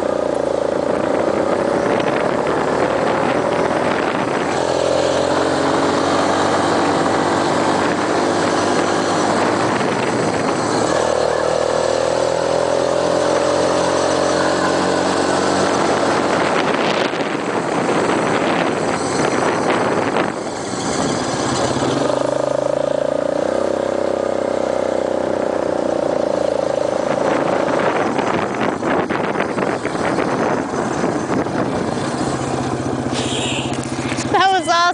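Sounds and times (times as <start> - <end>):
off-road vehicle engine running: 0.0 - 34.9
wind: 0.0 - 34.9.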